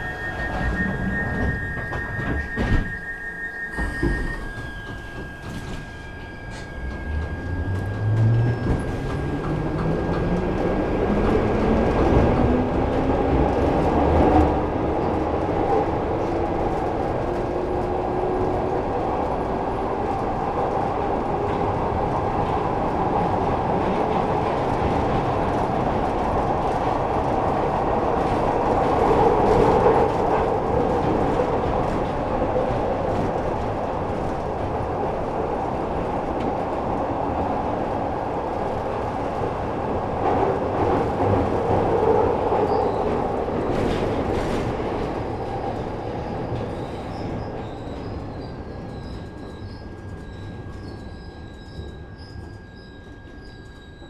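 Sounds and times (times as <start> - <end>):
subway train motor whine: 0.0 - 54.0
wheels rumbling on rail: 0.0 - 54.0.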